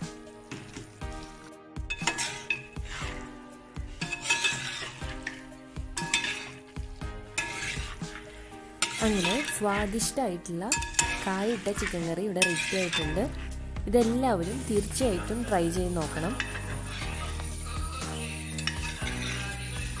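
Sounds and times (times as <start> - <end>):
sizzle from pot: 0.0 - 20.0
spatula scraping a metal pot: 0.0 - 20.0.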